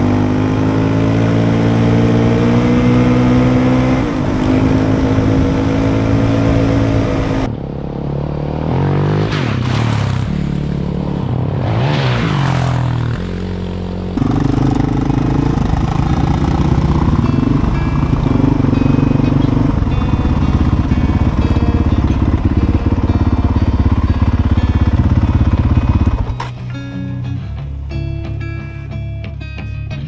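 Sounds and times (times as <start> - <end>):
off-road engine revving: 0.0 - 27.3.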